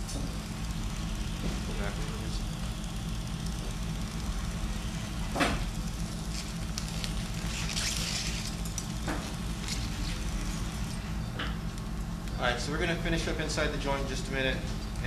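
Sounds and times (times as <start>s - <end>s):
low hum of medical equipment: 0.0s - 15.0s.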